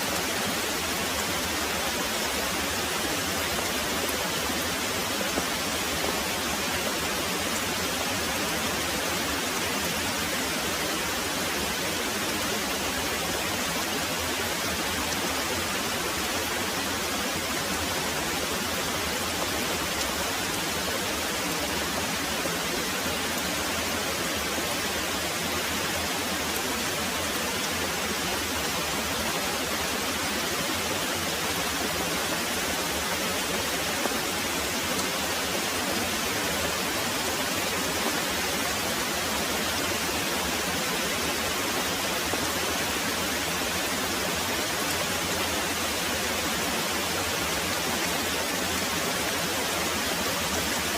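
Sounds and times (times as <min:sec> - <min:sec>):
very heavy rain pouring: 0:00.0 - 0:50.9.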